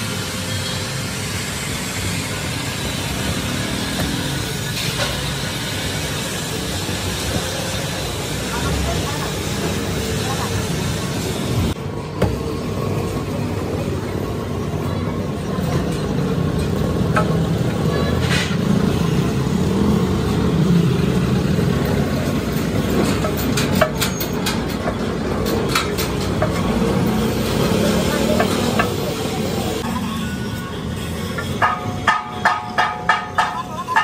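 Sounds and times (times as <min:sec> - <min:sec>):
traffic: 0:00.0 - 0:34.0.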